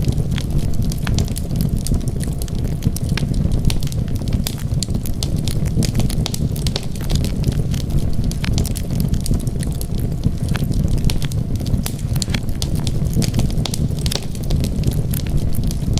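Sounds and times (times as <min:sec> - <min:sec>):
wood fire crackling and popping: 0:00.0 - 0:15.9.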